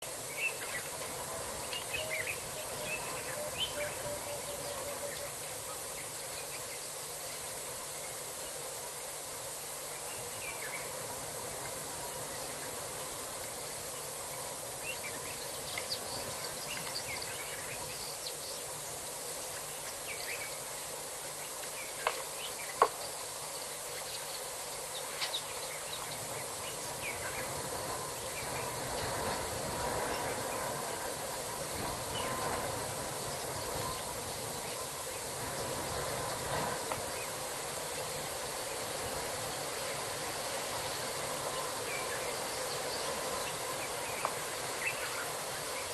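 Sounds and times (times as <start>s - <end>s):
insects hissing and chirping: 0.0s - 45.9s.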